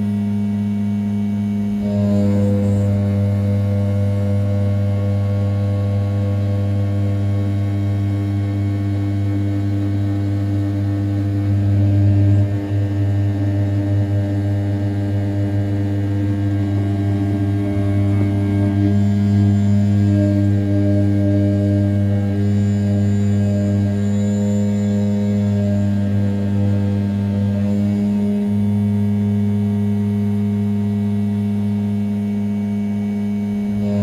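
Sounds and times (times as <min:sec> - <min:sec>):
cnc mill spindle cutting metal: 0:00.0 - 0:34.0.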